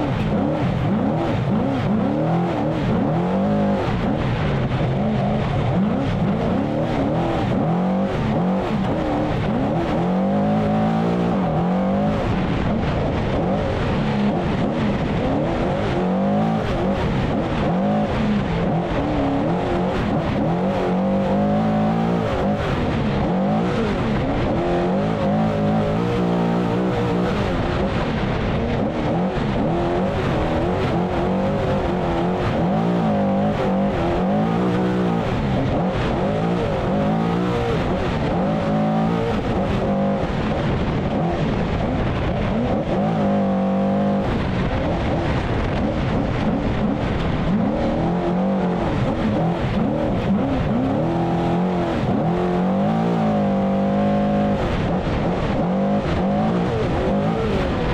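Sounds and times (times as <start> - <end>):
race engine revving: 0.0 - 57.9.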